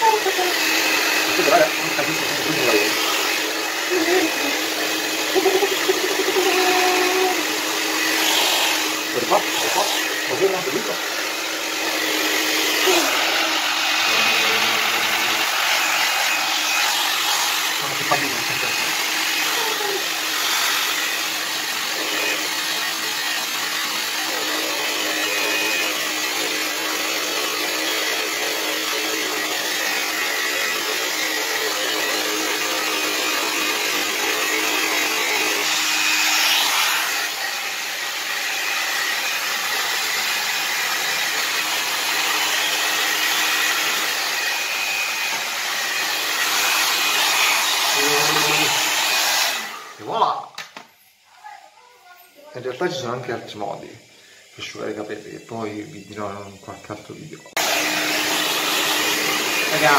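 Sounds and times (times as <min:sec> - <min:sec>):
hair dryer blowing air: 0:00.0 - 0:59.9.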